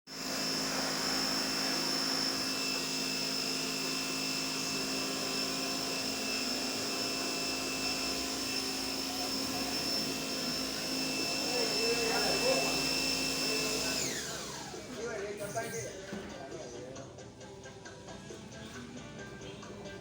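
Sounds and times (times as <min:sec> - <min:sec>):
motor-driven machine whining: 0:00.1 - 0:16.3.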